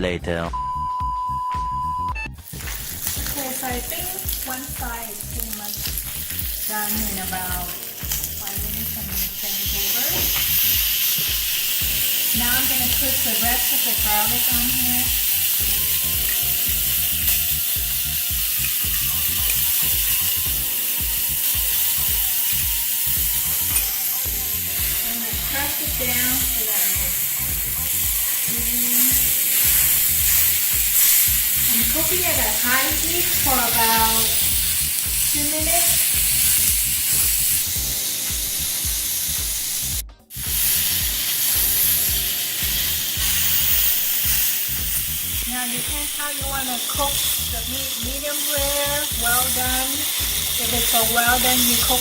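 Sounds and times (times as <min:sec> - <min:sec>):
steak sizzling in a pan: 0:02.4 - 0:52.0.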